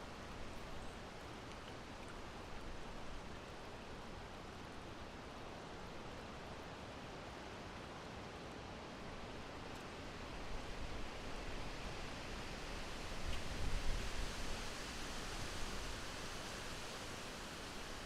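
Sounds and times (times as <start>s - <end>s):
steady breeze blowing: 2.3s - 18.0s.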